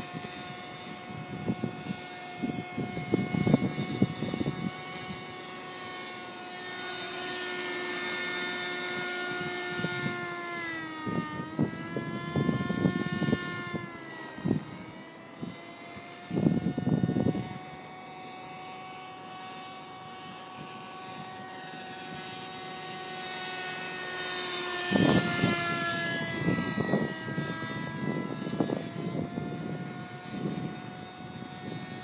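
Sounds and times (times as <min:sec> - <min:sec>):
model helicopter whine: 0:00.0 - 0:32.0.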